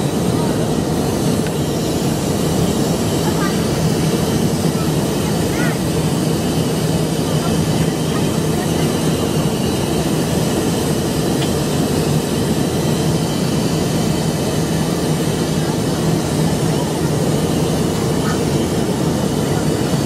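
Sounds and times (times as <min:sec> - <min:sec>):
jet airliner cabin roar: 0:00.0 - 0:20.0.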